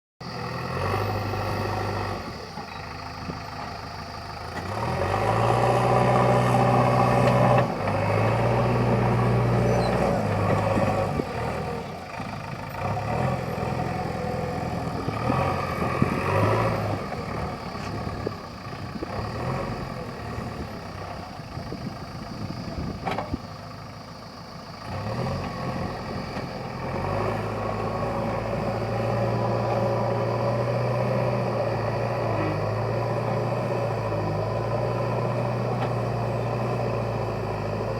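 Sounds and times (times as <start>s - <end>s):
diesel engine revving: 0.2s - 37.9s.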